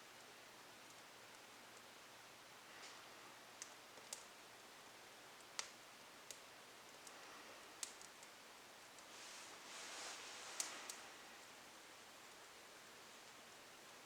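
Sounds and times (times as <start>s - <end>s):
faint steady hiss: 0.0s - 14.0s
twigs crackling in fireplace: 2.7s - 14.0s.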